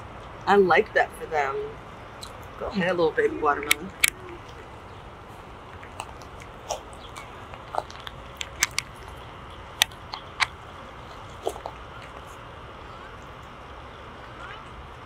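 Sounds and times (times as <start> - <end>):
steady low hiss: 0.0 - 15.0
leaves and vines crackling: 2.1 - 15.0.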